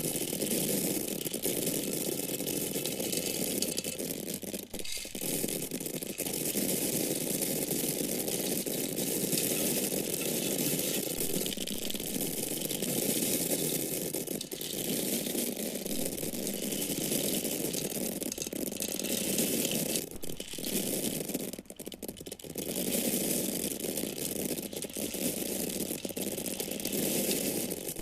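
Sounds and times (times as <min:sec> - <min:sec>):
dry corn kernels pouring: 0:00.0 - 0:28.0.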